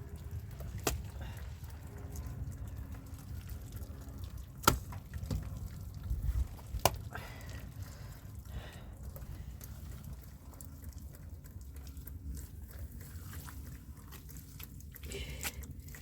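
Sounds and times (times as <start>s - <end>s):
water dripping and trickling: 0.0s - 16.0s.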